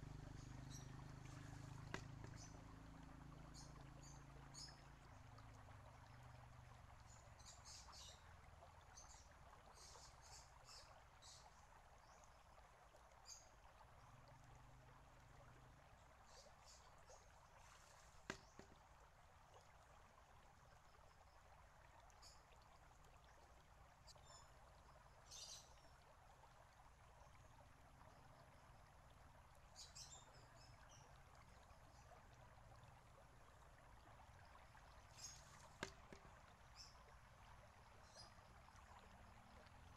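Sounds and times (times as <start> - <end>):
water trickling from stone fountain: 0.0 - 39.9.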